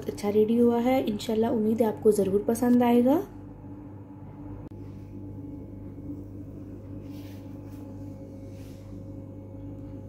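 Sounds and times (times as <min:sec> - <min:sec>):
steady multi-tone hum: 0:00.0 - 0:10.0.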